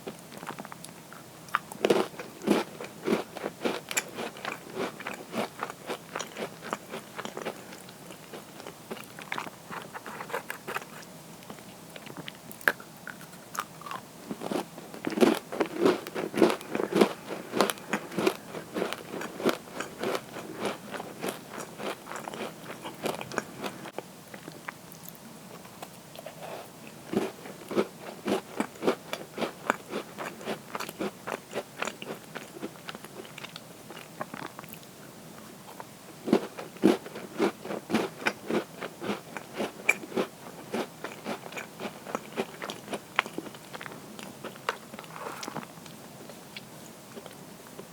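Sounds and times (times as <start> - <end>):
crunchy cookies being chewed: 0.0 - 47.9.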